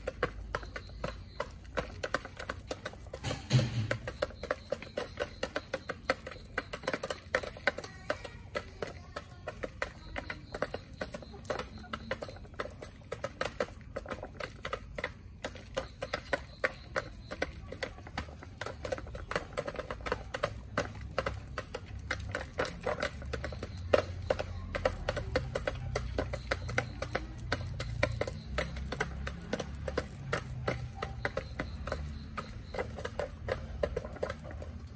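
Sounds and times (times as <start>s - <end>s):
chickens pecking feed: 0.0s - 34.9s.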